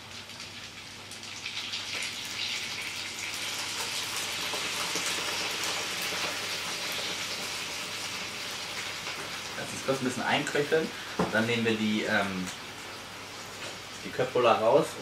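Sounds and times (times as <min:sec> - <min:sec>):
wine sizzling in hot pan: 0:00.0 - 0:15.0.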